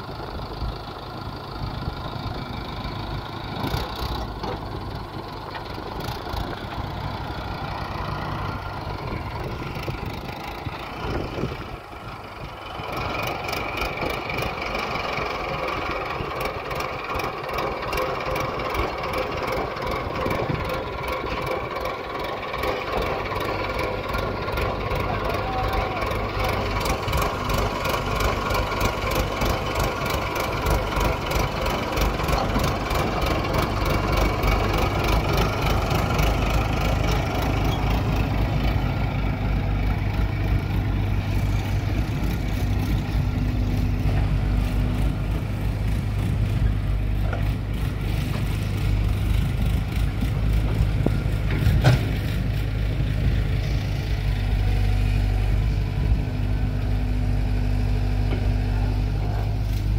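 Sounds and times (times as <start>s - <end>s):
diesel tractor engine idling: 0.0s - 59.9s.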